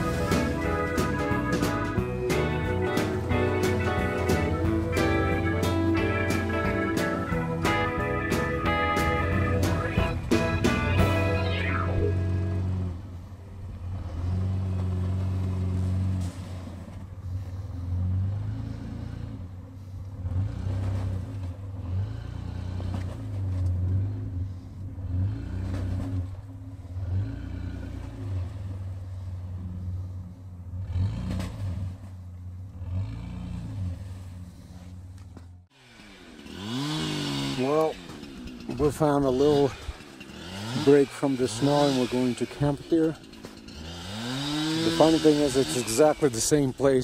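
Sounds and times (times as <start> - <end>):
truck engine revving: 0.0 - 47.0.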